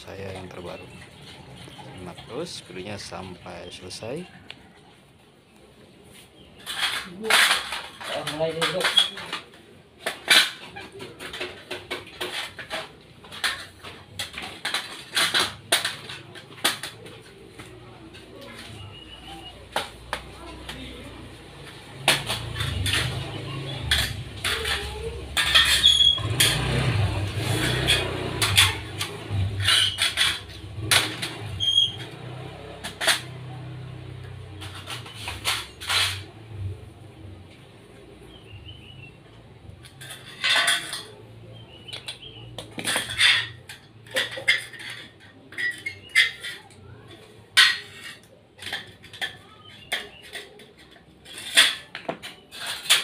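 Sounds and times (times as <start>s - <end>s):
steel frame pieces clanking: 6.5s - 53.0s.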